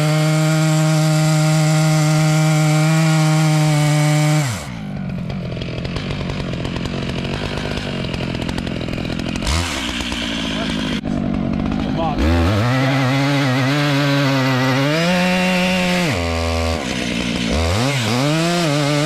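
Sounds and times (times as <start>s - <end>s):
chainsaw running: 0.0s - 19.0s.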